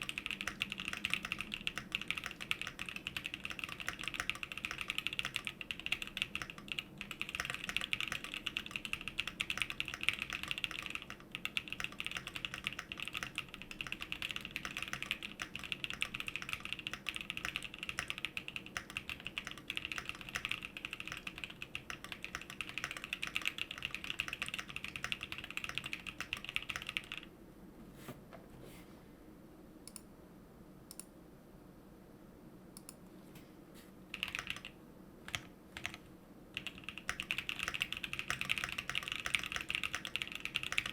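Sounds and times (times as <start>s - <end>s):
mechanical keyboard typing: 0.0s - 27.3s, 34.1s - 36.0s, 36.6s - 40.9s.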